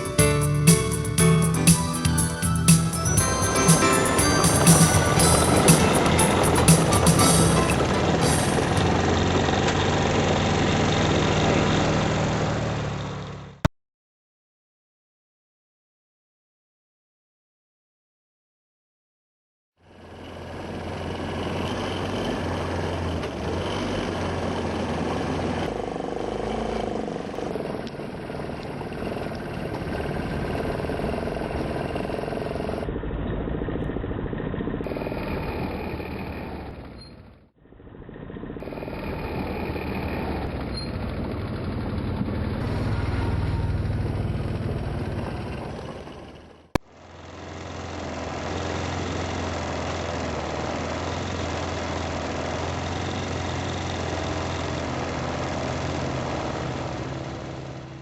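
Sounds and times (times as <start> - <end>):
atv engine running: 0.0 - 13.7, 19.9 - 58.0.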